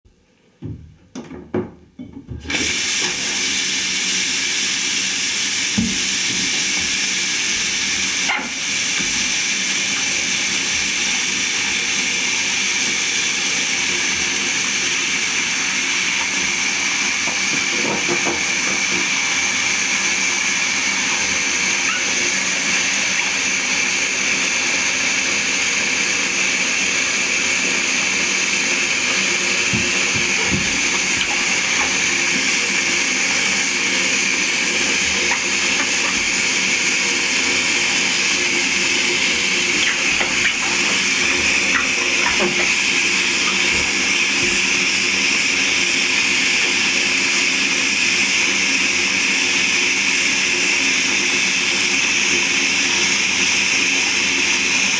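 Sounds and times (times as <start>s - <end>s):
shower water spraying: 2.5s - 54.9s.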